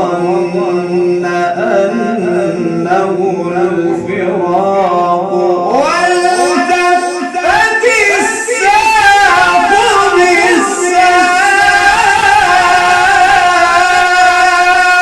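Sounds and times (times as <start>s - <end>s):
person reciting melodically: 0.0s - 15.0s.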